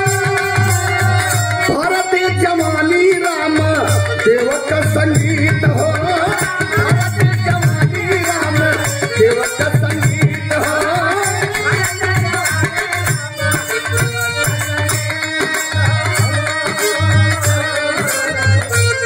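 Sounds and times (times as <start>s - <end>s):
held instrumental notes: 0.0s - 19.0s
man singing: 0.0s - 19.0s.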